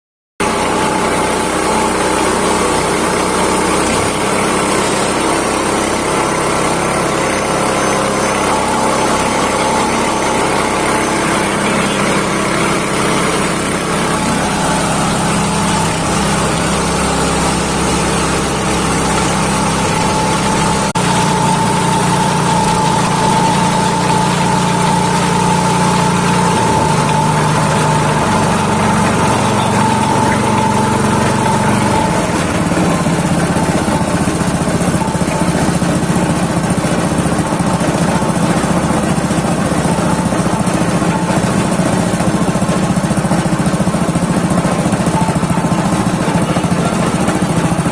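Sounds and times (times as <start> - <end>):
machine whine: 0.4 - 47.9
shredding machine humming: 0.4 - 47.9.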